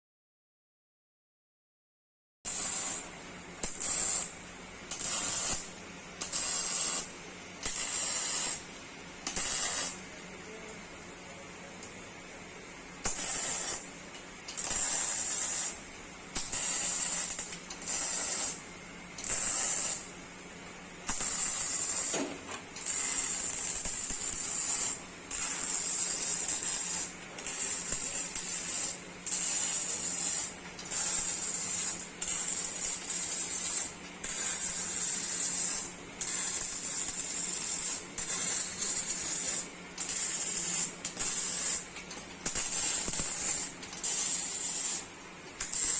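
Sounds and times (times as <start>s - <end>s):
welding arc crackling and hissing: 2.5s - 45.9s.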